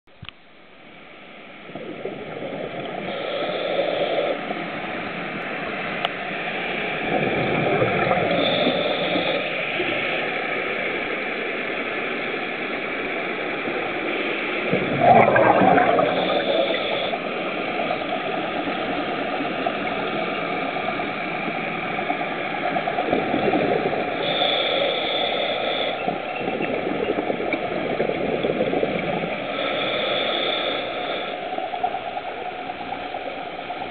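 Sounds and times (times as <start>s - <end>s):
regulator bubbles underwater: 1.4s - 5.4s, 6.8s - 10.4s, 13.8s - 33.9s.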